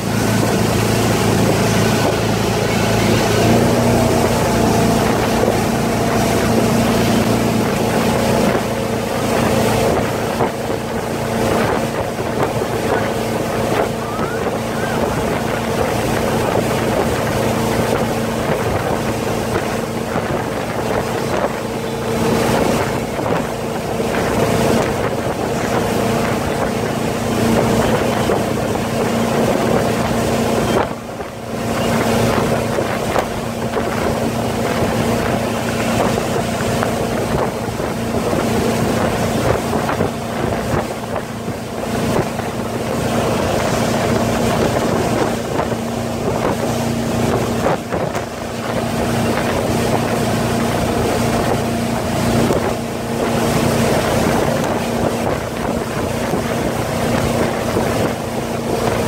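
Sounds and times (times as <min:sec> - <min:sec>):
motorboat engine running: 0:00.0 - 0:59.0
rush of boat wake: 0:00.0 - 0:59.0
wind buffeting microphone: 0:00.0 - 0:59.0.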